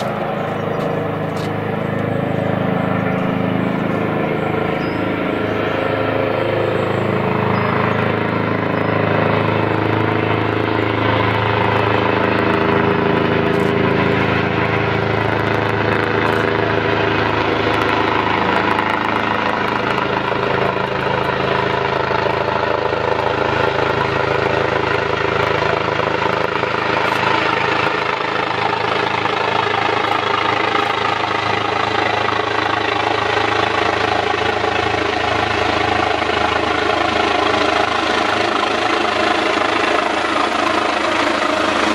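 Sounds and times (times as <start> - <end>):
helicopter rotor and turbines: 0.0 - 41.9.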